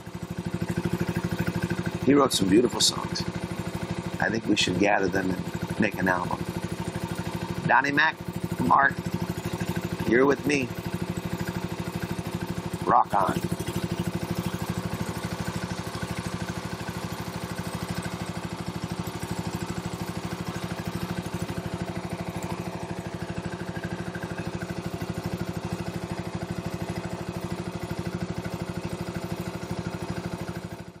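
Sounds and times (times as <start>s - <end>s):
boat engine chugging: 0.0s - 31.0s.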